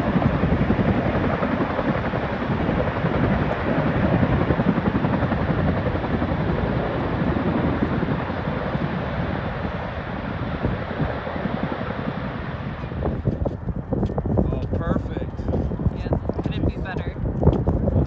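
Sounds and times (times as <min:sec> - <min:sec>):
helicopter turbines and rotors: 0:00.0 - 0:18.0.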